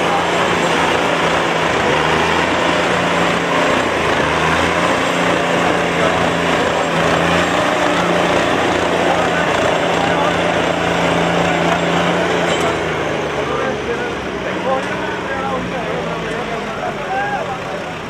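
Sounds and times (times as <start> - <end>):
tractor diesel engines under load: 0.0 - 18.0.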